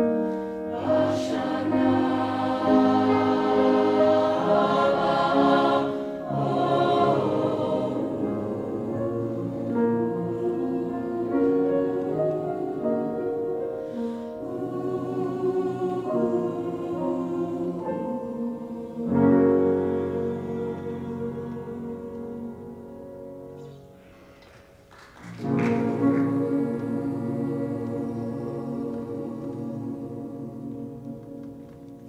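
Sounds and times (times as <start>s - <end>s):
choir singing held chords: 0.0s - 24.3s, 25.4s - 32.0s.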